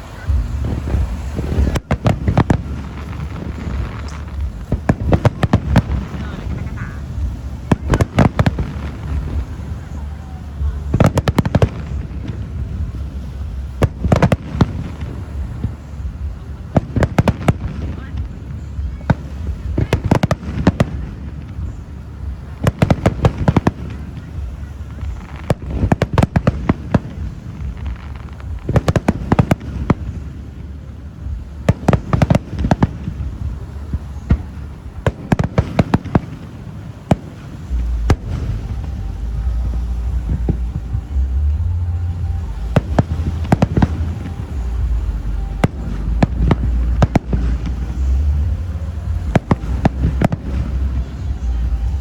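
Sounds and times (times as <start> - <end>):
deep low rumble: 0.0 - 52.0
fireworks bangs and pops: 0.0 - 52.0.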